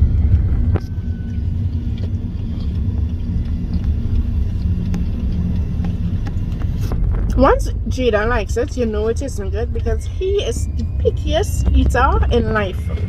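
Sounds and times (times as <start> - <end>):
faint hum: 0.0 - 13.0
low vehicle rumble: 0.0 - 13.0.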